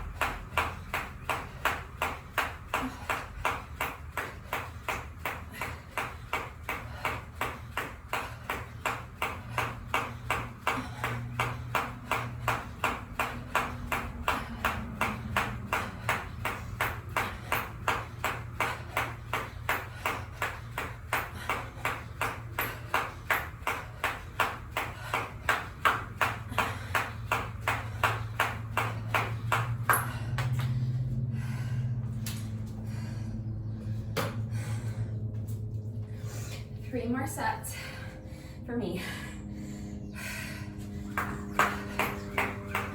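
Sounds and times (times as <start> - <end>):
jump rope slapping the floor: 0.0 - 32.8, 41.0 - 42.9.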